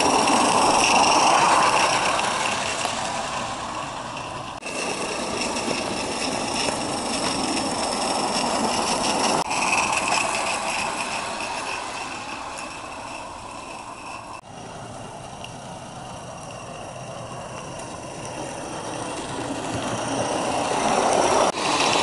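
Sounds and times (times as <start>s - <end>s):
steam engine hissing: 0.0s - 22.0s.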